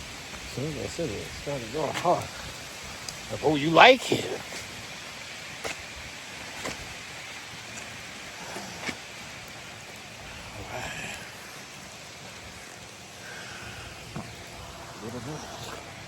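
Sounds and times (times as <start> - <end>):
heavy rain hissing: 0.0 - 16.0
raindrops tapping: 0.0 - 16.0.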